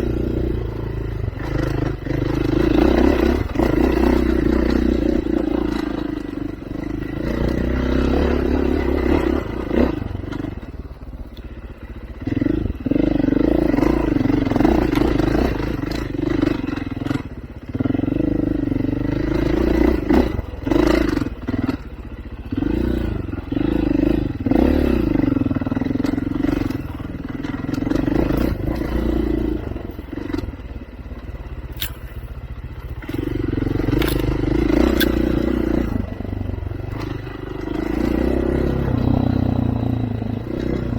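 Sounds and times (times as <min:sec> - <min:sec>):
off-road vehicle engine: 0:00.0 - 0:40.9.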